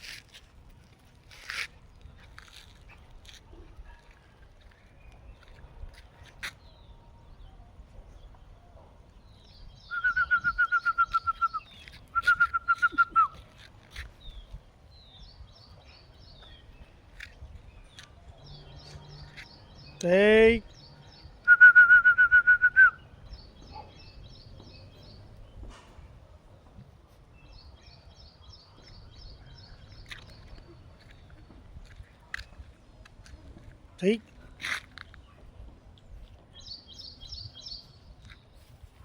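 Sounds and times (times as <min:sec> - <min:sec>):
faint background bird chirping: 0:00.0 - 0:21.8, 0:22.6 - 0:39.0.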